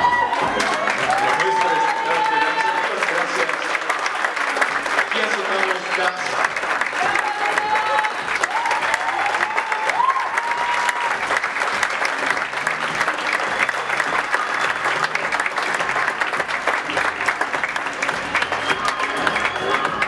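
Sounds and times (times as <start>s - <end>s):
audience applauding: 0.0s - 20.0s
high cheer: 0.0s - 20.0s.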